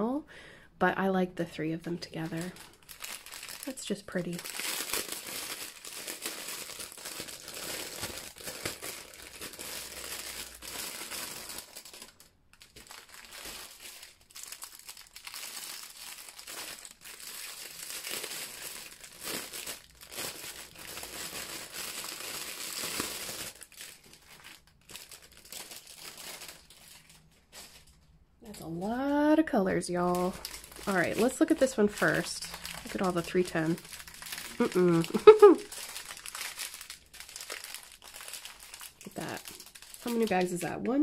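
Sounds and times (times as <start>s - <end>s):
plastic packaging crinkling: 2.1s - 28.7s, 29.9s - 41.0s.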